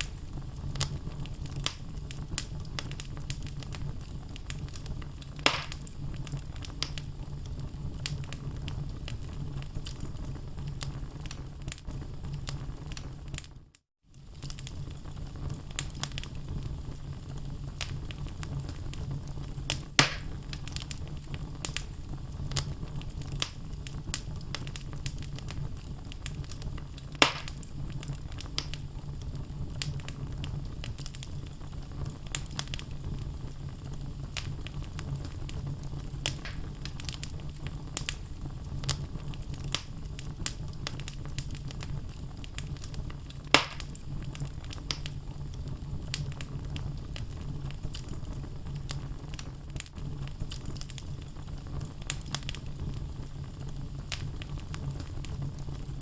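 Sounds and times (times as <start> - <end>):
logs crackling in a fireplace: 0.0 - 56.0
loud fire pops: 0.0 - 56.0
low rumble of flames: 0.0 - 56.0.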